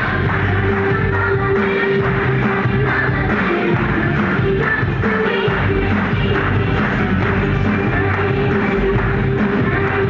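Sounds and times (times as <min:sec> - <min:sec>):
loud dance music: 0:00.0 - 0:10.0.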